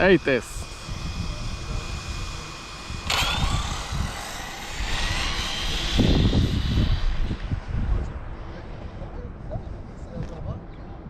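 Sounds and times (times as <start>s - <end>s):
electric motor high whine: 0.0s - 9.1s
low rumble: 0.0s - 10.7s.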